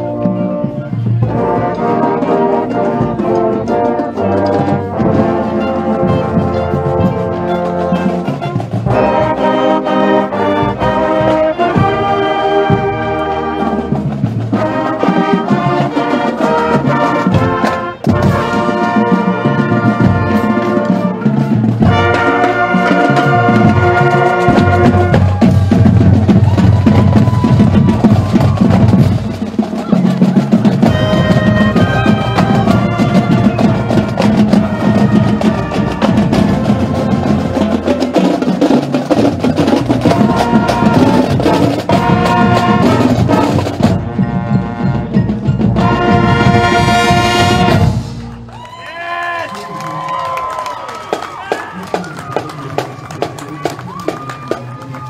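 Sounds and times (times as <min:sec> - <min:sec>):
brass playing tune: 0:00.0 - 0:48.5
drums: 0:00.0 - 0:55.0
marching band playing: 0:00.0 - 0:55.0.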